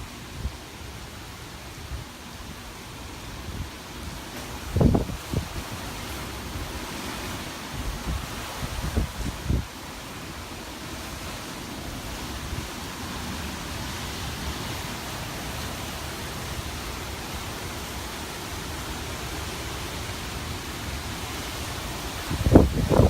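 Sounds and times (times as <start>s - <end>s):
wind blowing: 1.6s - 23.0s.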